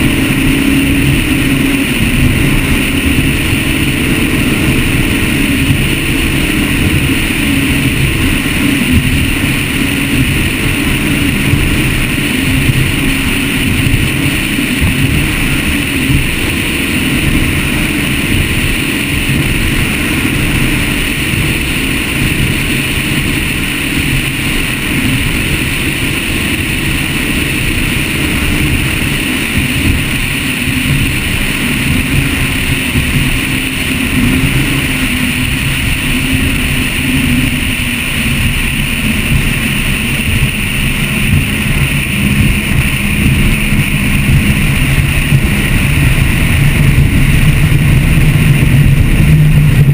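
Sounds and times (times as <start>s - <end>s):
boat engine drone: 0.0s - 49.9s
wind and water rushing: 0.0s - 49.9s.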